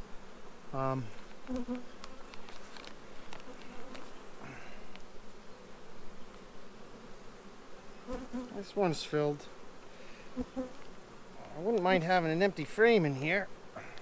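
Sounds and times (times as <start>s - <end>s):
honeybee colony humming: 0.0s - 14.0s.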